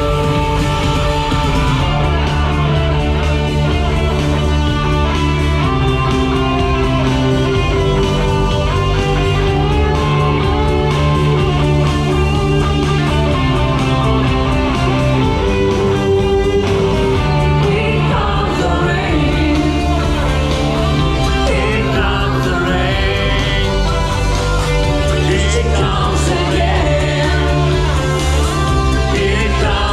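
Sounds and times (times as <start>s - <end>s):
rock music with guitar and singing: 0.0s - 29.9s.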